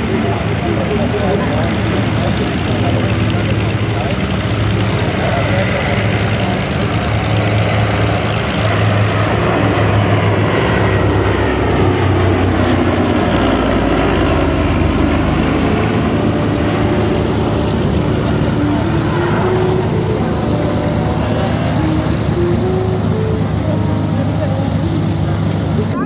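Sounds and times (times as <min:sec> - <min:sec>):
aircraft radial engines droning: 0:00.0 - 0:26.0.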